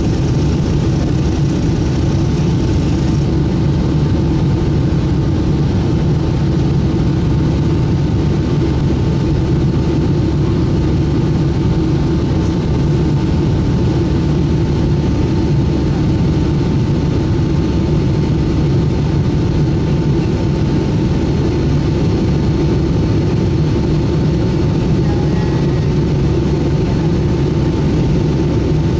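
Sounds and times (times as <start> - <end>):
faint constant whine: 0.0 - 28.9
jet engines droning: 0.0 - 28.9.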